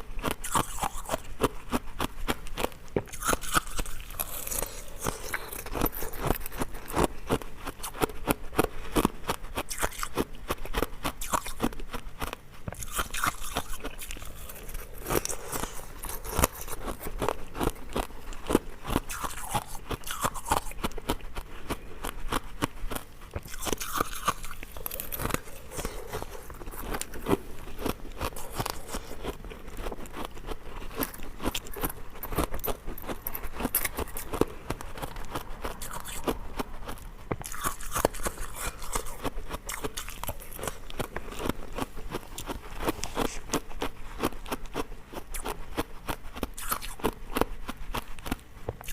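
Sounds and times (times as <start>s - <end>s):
ice cubes crunching in mouth: 0.2s - 11.8s, 12.7s - 48.1s.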